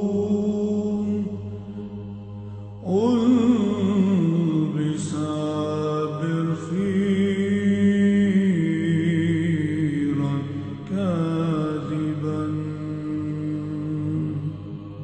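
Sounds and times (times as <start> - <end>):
low held vocal drone: 0.0 - 15.0
person chanting ornamented melody: 0.0 - 15.0.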